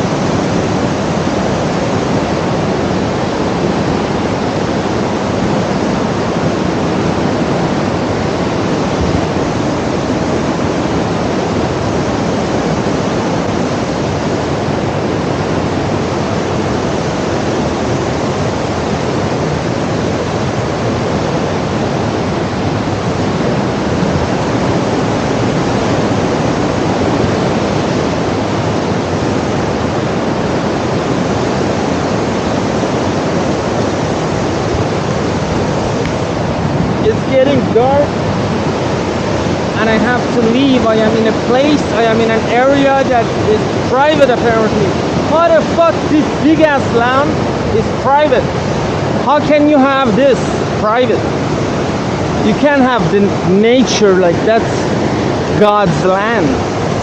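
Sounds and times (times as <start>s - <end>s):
loud steady rushing noise: 0.0s - 57.0s.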